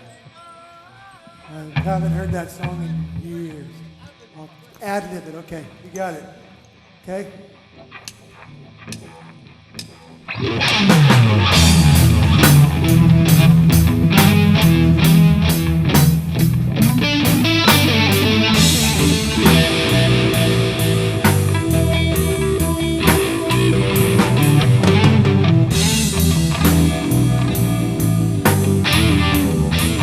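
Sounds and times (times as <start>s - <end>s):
rock band instrumental jam: 1.4s - 30.0s.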